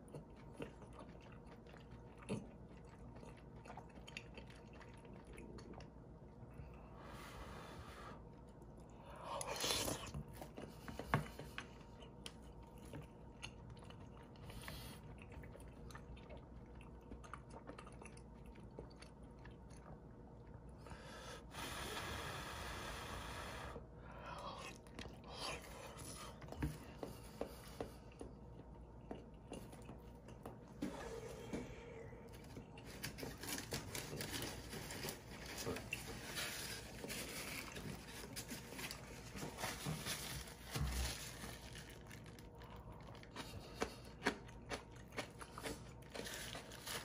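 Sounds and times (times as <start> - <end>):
chewing: 0.0 - 6.8, 8.4 - 21.0, 24.3 - 47.0.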